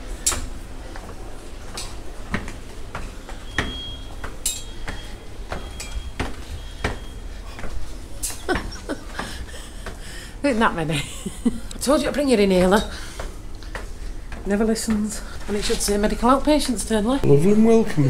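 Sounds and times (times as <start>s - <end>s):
footsteps climbing stairs: 0.0s - 17.2s.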